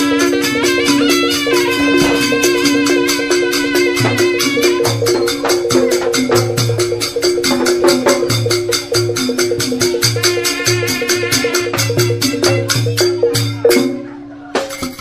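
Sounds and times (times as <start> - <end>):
repeating melodic line: 0.0 - 14.0
fast percussion strikes: 0.0 - 15.0
low bass pattern: 0.1 - 14.1.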